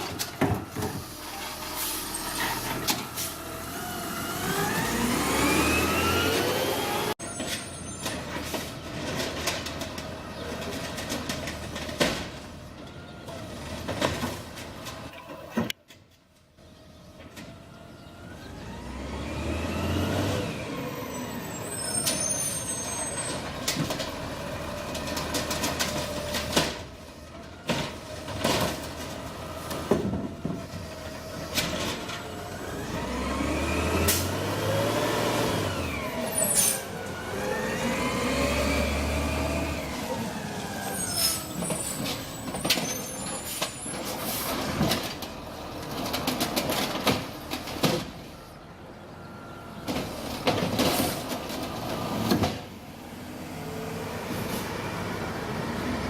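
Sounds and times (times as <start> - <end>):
garbage truck engine revving: 0.0 - 7.2, 18.0 - 56.0.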